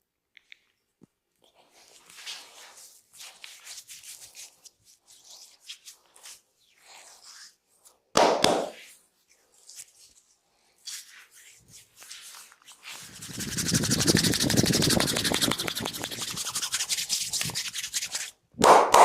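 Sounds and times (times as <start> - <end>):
hands rubbing skin: 1.4 - 8.0, 8.6 - 18.4.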